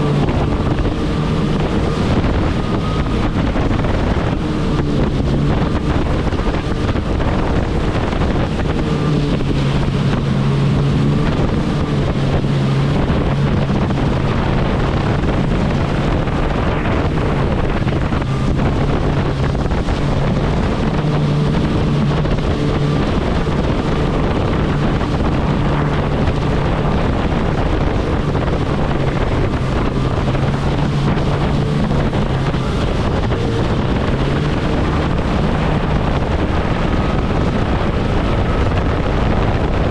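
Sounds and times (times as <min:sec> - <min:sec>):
jet ski engine droning: 0:00.0 - 0:39.9.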